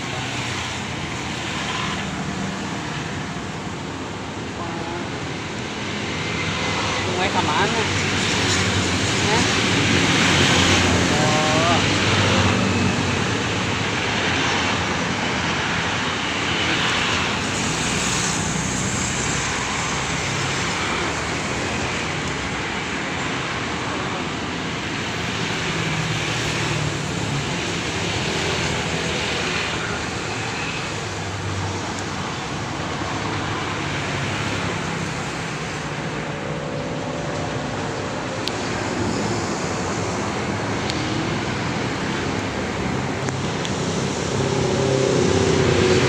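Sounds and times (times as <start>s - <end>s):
road traffic noise: 0.0s - 46.0s
vehicles passing: 0.0s - 46.0s.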